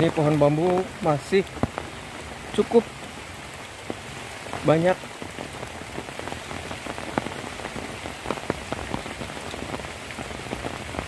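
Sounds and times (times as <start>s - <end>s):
heavy rain on foliage: 0.0s - 11.0s
raindrop taps: 0.0s - 11.0s.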